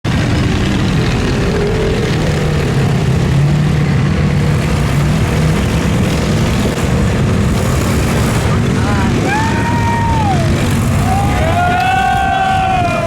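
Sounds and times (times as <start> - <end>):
large engine droning: 0.0 - 13.0.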